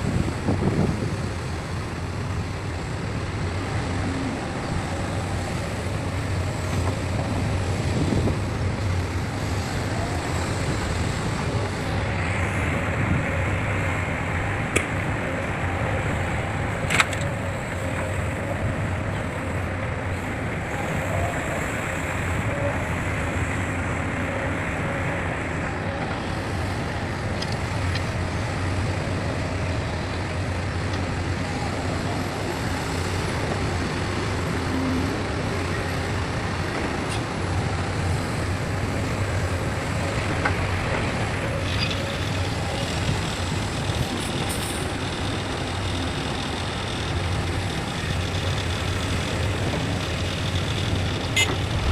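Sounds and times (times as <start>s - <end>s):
heavy diesel engines running: 0.0s - 51.9s.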